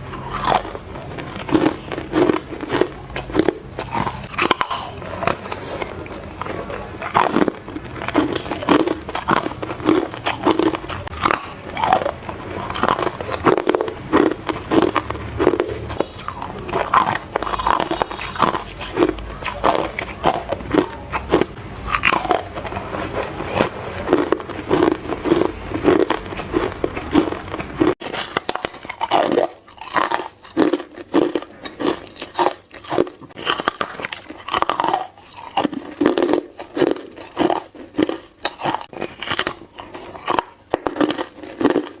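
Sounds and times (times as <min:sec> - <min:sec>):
crunching bites of ice: 0:00.1 - 0:42.0.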